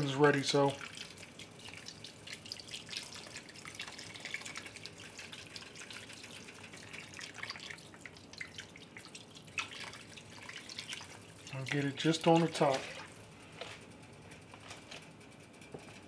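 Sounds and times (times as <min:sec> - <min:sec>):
broth trickling and dripping: 0:00.0 - 0:14.5.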